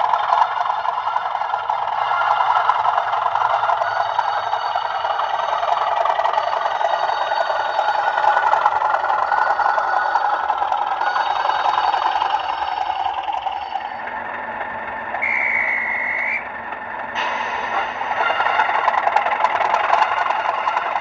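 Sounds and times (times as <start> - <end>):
diesel engine sound from small speaker: 0.0 - 21.0.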